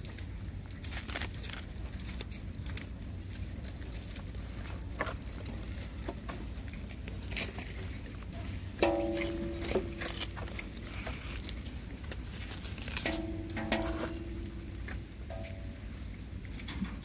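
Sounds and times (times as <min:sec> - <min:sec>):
puppies chewing through leaves: 0:00.0 - 0:17.0.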